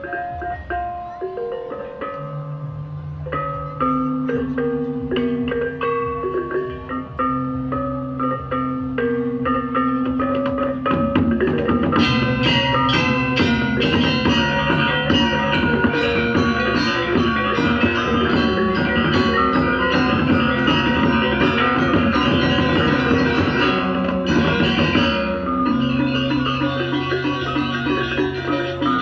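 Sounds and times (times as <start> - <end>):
metallophone notes: 0.0 - 29.0.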